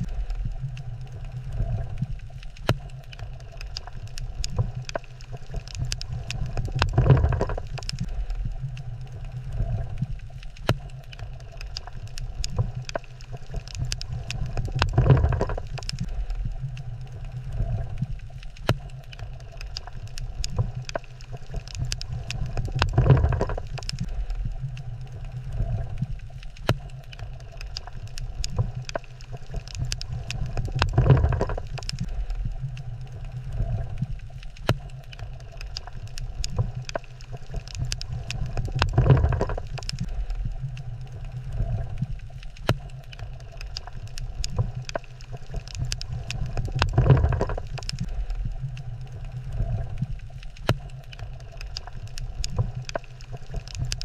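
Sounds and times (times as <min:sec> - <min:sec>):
crackle of sharp clicks: 0:00.0 - 0:54.0
underwater low rumble: 0:00.0 - 0:54.0.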